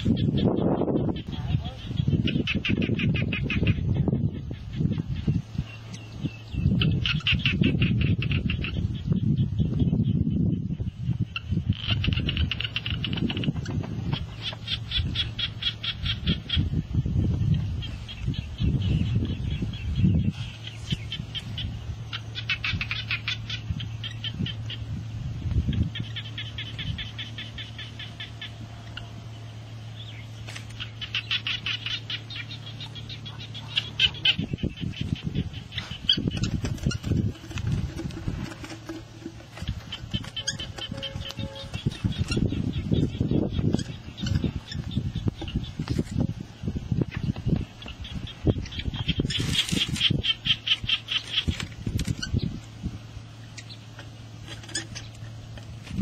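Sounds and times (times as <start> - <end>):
high chirping calls: 0.0 - 56.0
low steady hum: 0.0 - 56.0.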